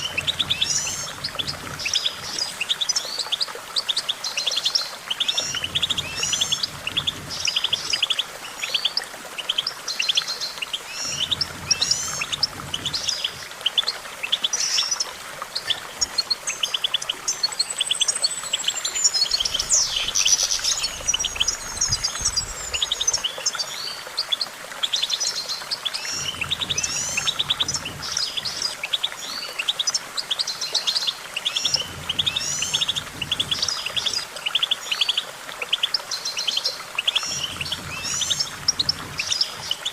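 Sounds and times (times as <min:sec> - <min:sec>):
goldfinch twittering and trilling: 0:00.0 - 0:39.9.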